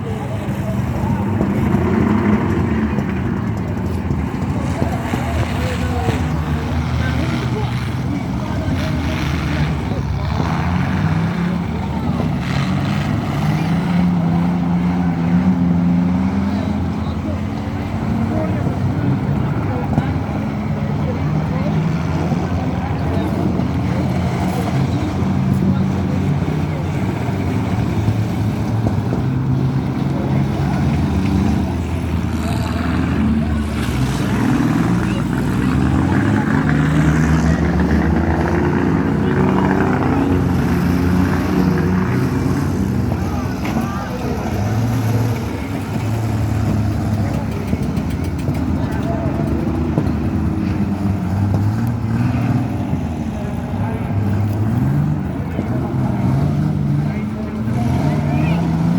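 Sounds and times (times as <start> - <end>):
car engines running: 0.0 - 58.9
steady engine drone: 0.0 - 58.9.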